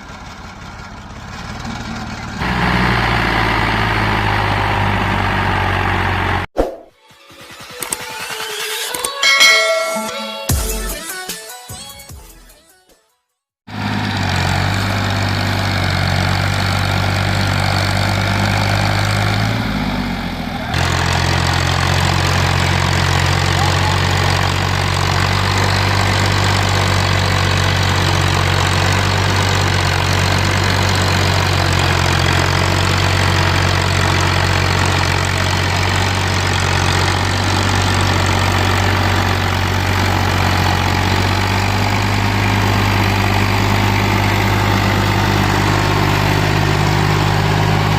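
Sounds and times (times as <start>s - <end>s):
tractor diesel engine running: 0.0s - 6.5s, 13.7s - 47.9s.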